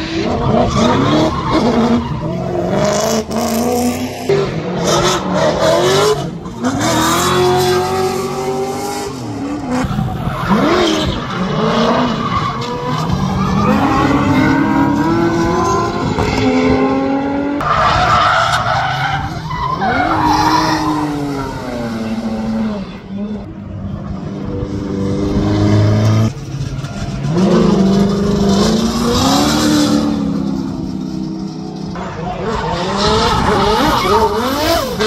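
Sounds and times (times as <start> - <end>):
car engines revving: 0.0 - 35.0
tyres skidding and squealing: 0.0 - 35.0.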